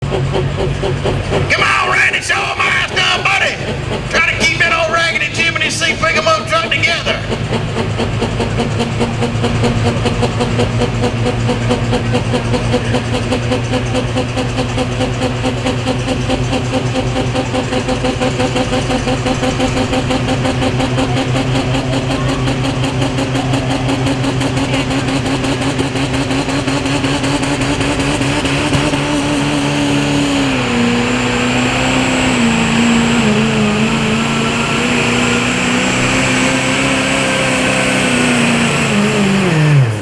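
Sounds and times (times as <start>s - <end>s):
diesel truck engine at full throttle: 0.0s - 40.0s.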